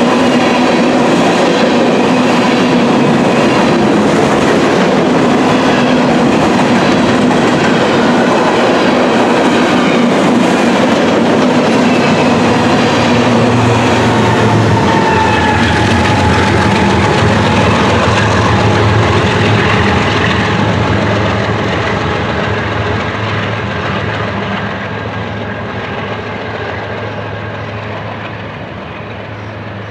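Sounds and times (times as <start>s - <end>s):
freight train rolling past: 0.0s - 29.9s
locomotive hum: 0.0s - 29.9s.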